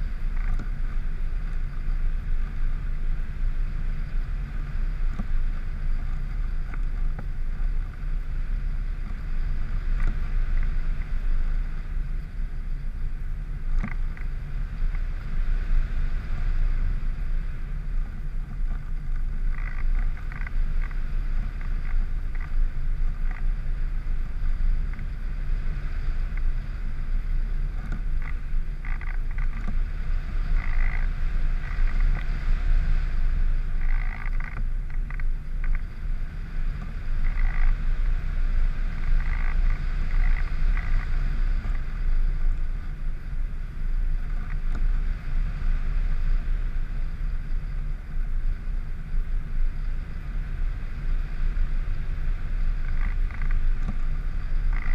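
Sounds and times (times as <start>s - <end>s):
faint high whine: 0.0s - 54.9s
wind buffeting microphone: 0.0s - 54.9s.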